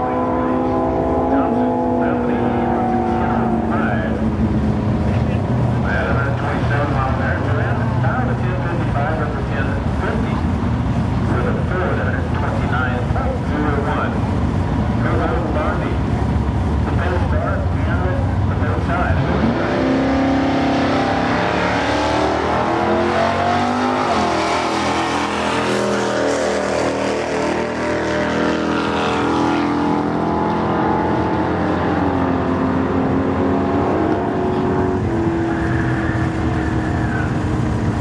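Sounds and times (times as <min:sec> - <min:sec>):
car engine at full throttle: 0:00.0 - 0:38.0
second car engine: 0:00.0 - 0:38.0.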